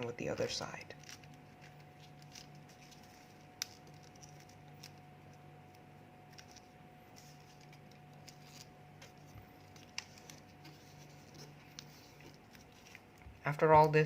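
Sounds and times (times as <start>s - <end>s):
low steady hum: 0.0s - 14.0s
paper being folded and creased: 0.2s - 13.1s.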